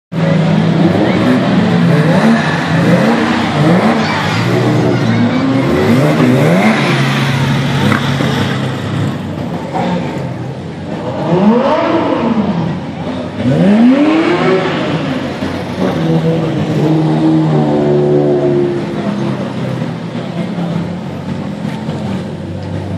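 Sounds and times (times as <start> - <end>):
car engines revving: 0.1 - 22.9.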